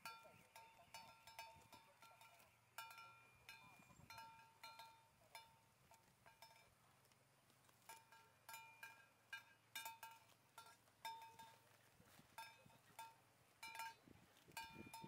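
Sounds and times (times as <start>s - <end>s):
cowbell clinking: 0.0s - 6.8s, 7.8s - 15.0s.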